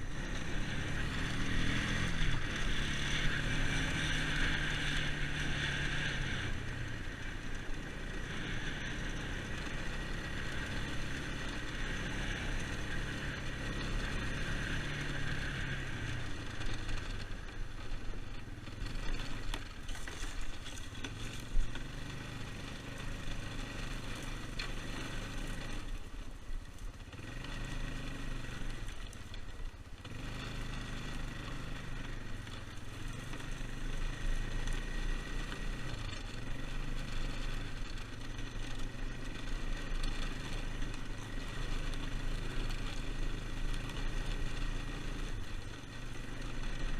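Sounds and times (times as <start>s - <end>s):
atv engine running: 0.0s - 46.9s.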